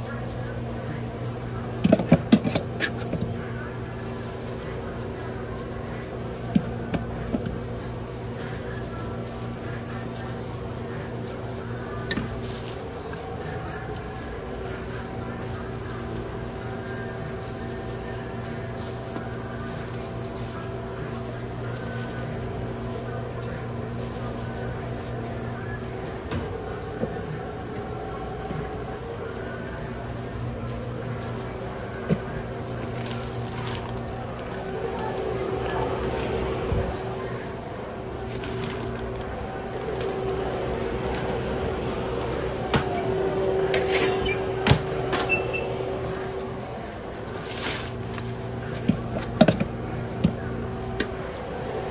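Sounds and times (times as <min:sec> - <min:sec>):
electrical equipment hum: 0:00.0 - 0:51.9.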